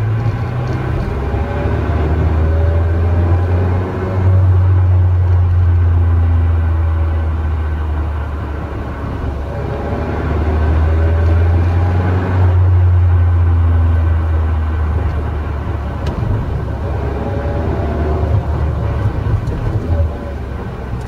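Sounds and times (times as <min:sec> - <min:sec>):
engine and road drone: 0:00.0 - 0:21.0
gearbox whine: 0:00.0 - 0:21.0.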